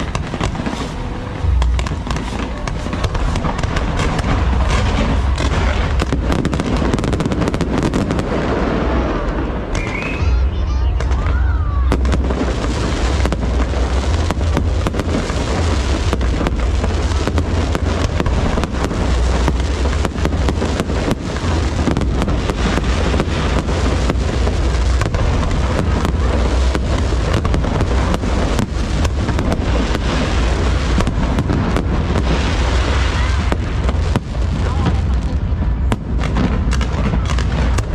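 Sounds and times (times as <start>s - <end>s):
firework bursts: 0.0s - 37.9s
fireworks crackling: 0.0s - 37.9s
low rumble: 0.0s - 37.9s.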